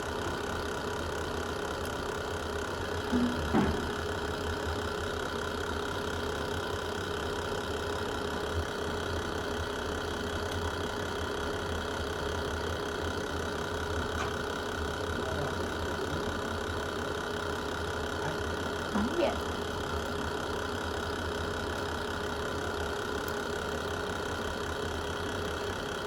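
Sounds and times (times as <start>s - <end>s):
wood fire rumbling: 0.1s - 26.0s.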